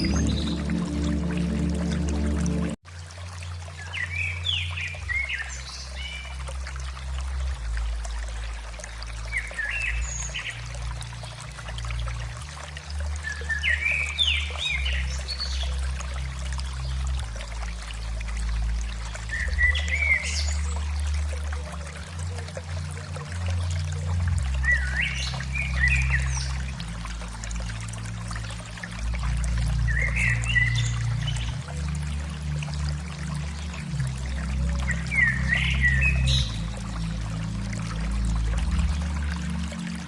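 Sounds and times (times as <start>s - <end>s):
low steady hum: 0.0s - 40.0s
water trickling: 0.0s - 40.0s.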